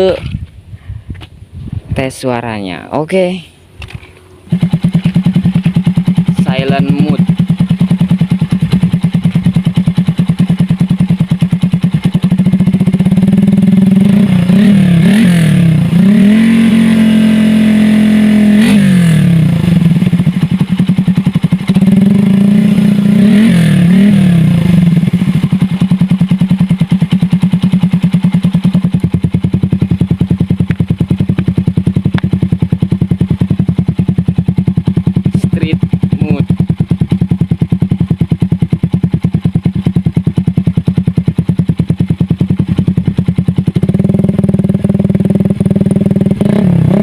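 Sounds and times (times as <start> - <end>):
motorcycle engine idling and revving: 0.0 - 47.0.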